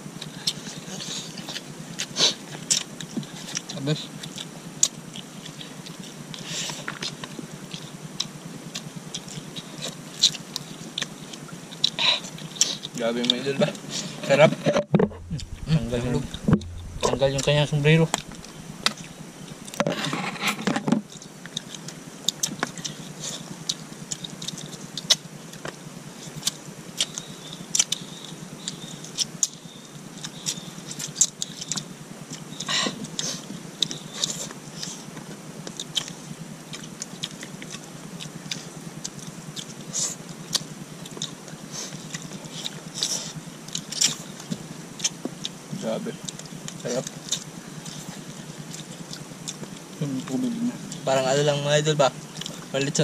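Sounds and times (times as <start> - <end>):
people chewing and lip smacking: 0.1 - 53.0.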